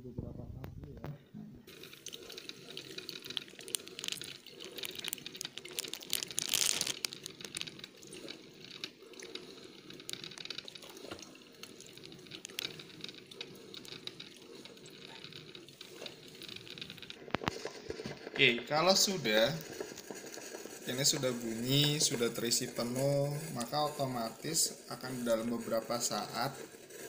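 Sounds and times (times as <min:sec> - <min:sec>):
coffee dripping with crackling pops: 0:01.7 - 0:27.0
coffee maker hissing and sputtering: 0:01.7 - 0:27.0.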